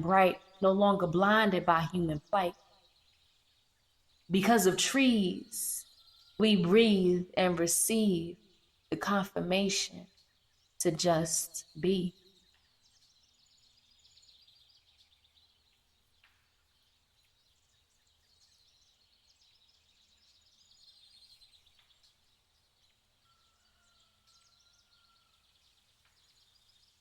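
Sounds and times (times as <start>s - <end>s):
faint birdsong chirps and trills: 0.0s - 27.0s.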